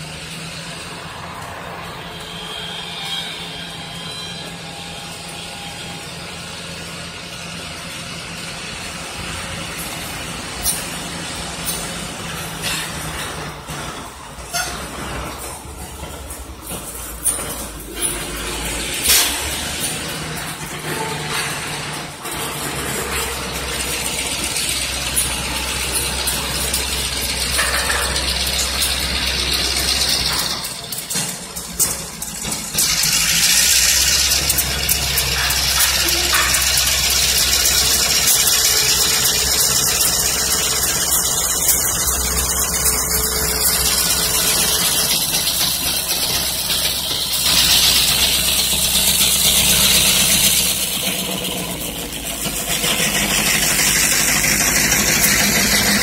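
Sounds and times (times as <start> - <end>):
diesel locomotive engine drone: 0.0 - 56.0
train rattling and rolling: 0.0 - 56.0.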